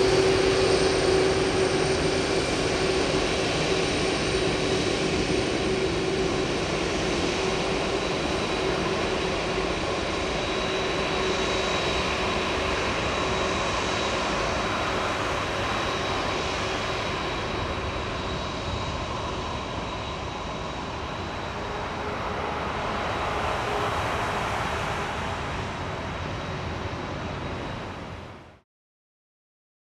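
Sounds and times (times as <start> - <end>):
high engine whine: 0.0 - 28.3
jet engines running: 0.0 - 28.4.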